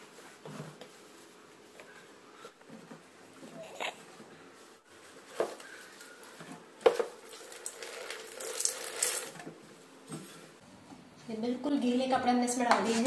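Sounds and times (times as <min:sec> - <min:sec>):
wet laundry rustling: 0:00.0 - 0:10.6.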